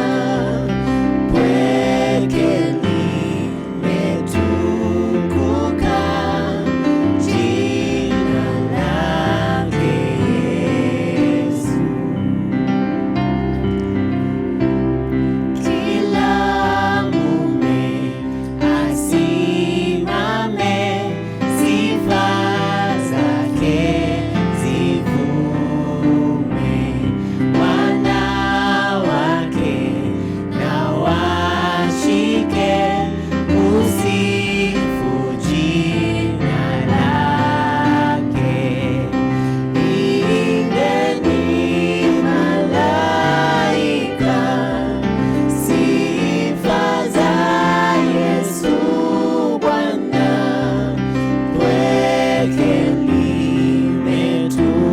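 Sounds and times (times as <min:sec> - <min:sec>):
steady bass accompaniment: 0:00.0 - 0:49.4
gospel choir singing: 0:00.0 - 0:54.9.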